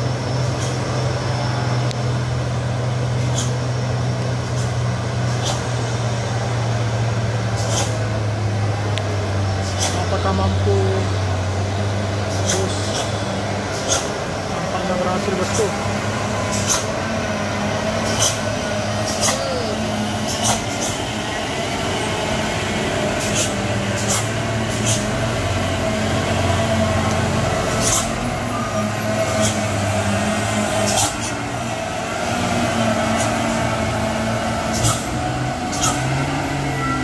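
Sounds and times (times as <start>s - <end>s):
diesel truck engine under load: 0.0s - 37.0s.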